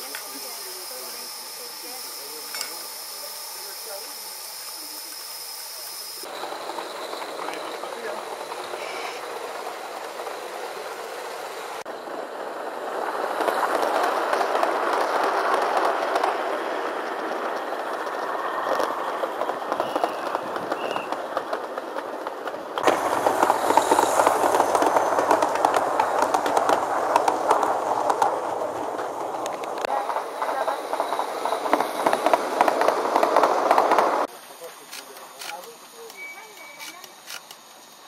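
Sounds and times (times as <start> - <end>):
model train wheels rattling on rails: 0.0 - 11.8, 12.8 - 38.0.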